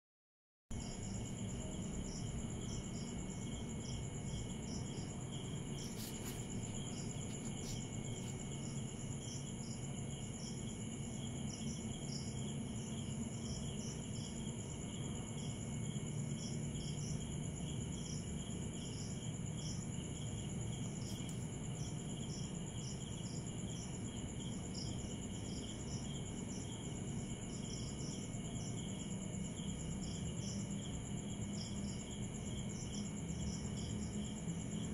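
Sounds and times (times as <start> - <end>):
crickets trilling: 0.7 - 34.9
insect chirping in short pulses: 0.8 - 15.6, 17.9 - 34.9.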